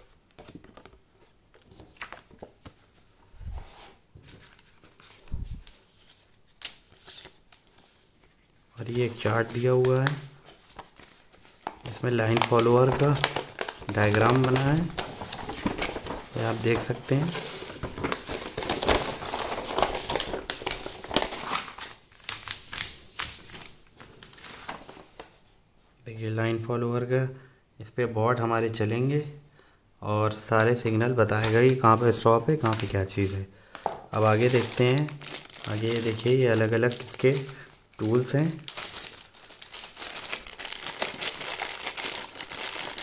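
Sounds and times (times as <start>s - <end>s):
paper rustling: 0.4s - 25.5s, 32.6s - 43.0s.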